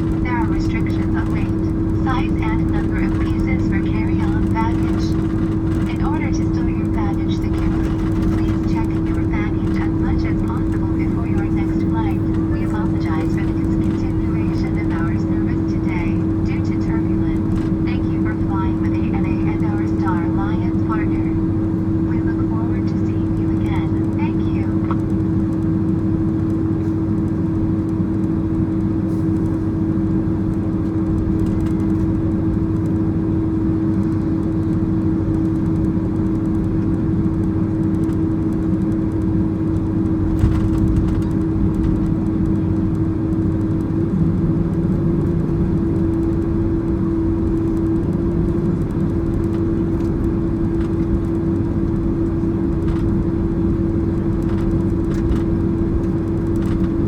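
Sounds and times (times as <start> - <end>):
aircraft engine hum: 0.0 - 57.0.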